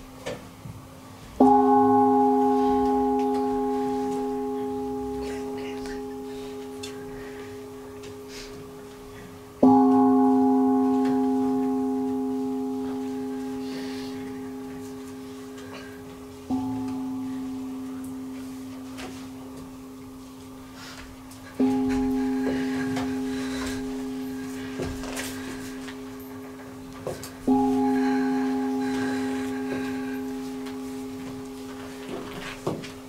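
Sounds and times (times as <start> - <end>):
singing bowl ringing: 1.4 - 33.0.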